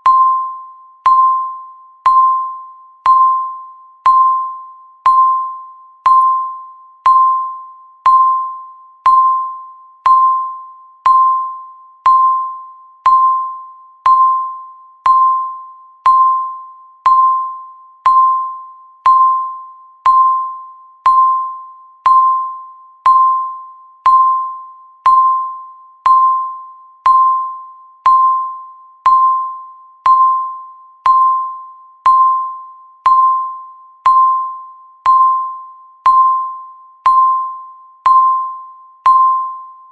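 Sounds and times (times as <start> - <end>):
bell-like timer ticks: 0.0 - 39.9.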